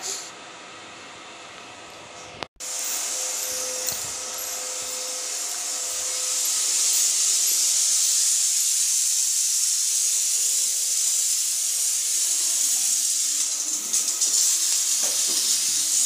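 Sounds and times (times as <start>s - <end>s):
loud high-pitched hiss: 2.6s - 16.0s.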